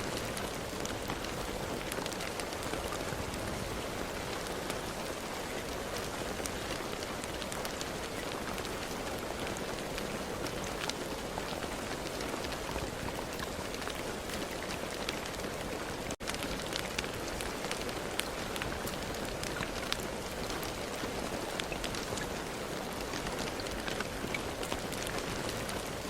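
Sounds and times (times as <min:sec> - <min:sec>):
raindrops ticking on hard surface: 0:00.0 - 0:26.0
steady rain: 0:00.0 - 0:26.0.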